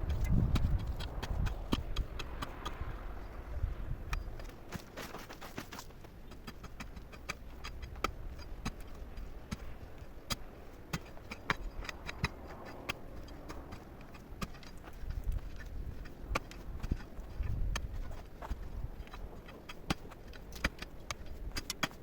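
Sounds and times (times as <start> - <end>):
sharp clicks and small knocks: 0.0 - 2.8, 4.1 - 22.0
low steady rumble: 0.0 - 4.9, 5.9 - 22.0.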